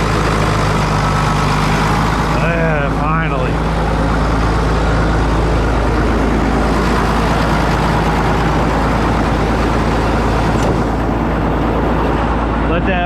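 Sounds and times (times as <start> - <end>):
heavy truck engine idling: 0.0 - 13.0.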